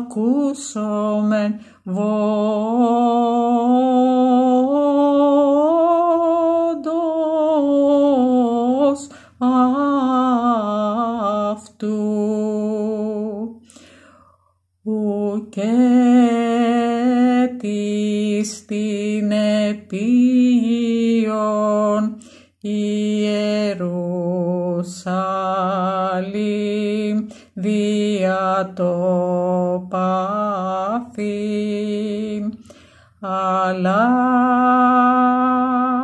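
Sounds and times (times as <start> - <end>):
solo voice chanting: 0.0 - 13.6, 14.8 - 36.0.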